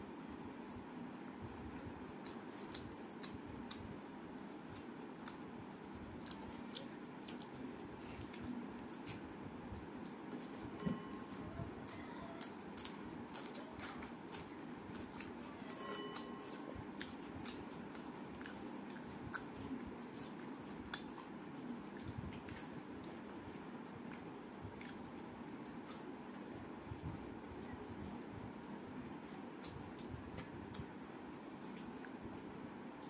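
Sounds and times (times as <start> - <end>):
steady background hiss: 0.0 - 33.0
woman chewing food: 0.5 - 33.0.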